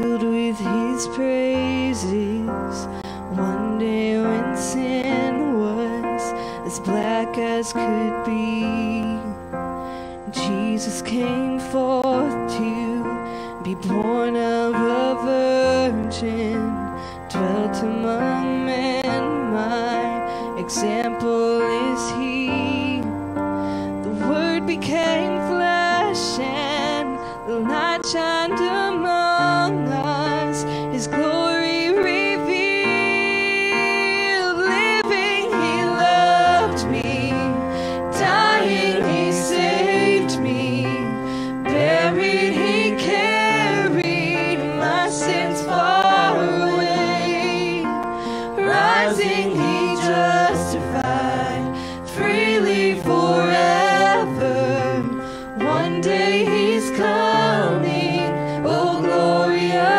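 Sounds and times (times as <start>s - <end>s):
choir singing in harmony: 0.0s - 9.3s, 10.3s - 23.1s, 24.0s - 59.9s
woman singing lead: 0.0s - 9.4s, 10.1s - 59.9s
electric keyboard: 0.0s - 59.9s.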